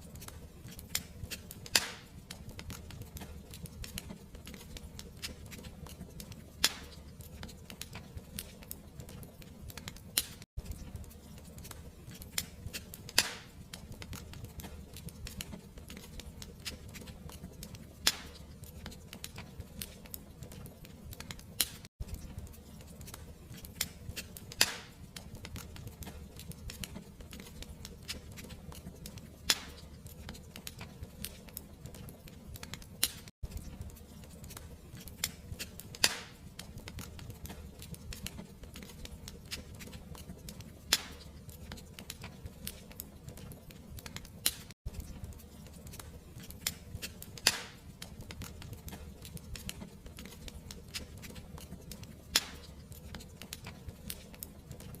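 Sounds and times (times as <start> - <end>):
fireplace crackling and popping: 0.0 - 55.0.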